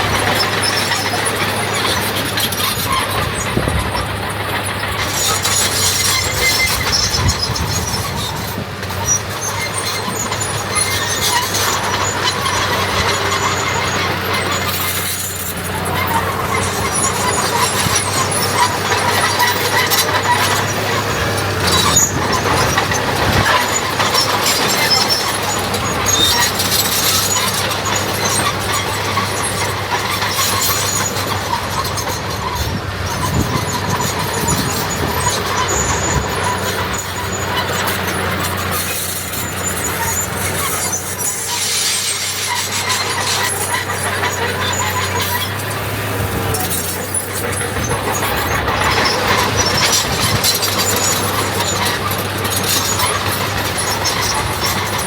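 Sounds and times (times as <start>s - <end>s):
diesel earthmoving machinery drone: 0.0s - 55.0s.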